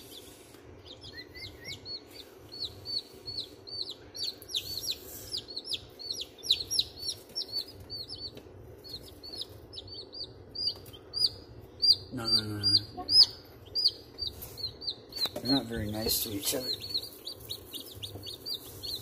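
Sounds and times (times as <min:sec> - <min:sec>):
chicks peeping: 0:00.0 - 0:19.0
low steady hum: 0:00.0 - 0:19.0.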